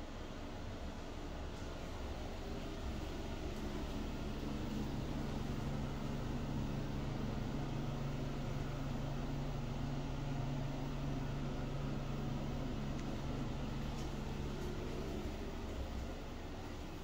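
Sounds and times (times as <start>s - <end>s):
ventilation fan hum: 0.0s - 17.0s.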